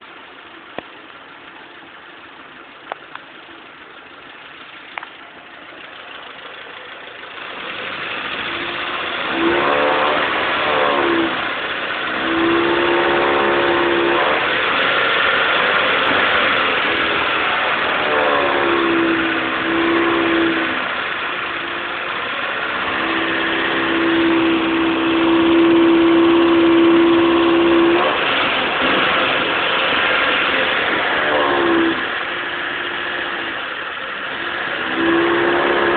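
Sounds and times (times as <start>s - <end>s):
car engine revving: 0.0s - 35.9s
steady humming tone: 0.0s - 35.9s.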